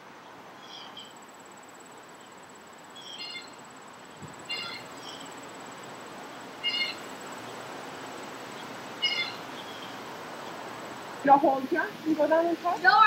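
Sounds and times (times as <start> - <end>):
faint outdoor background hiss: 0.0 - 13.0.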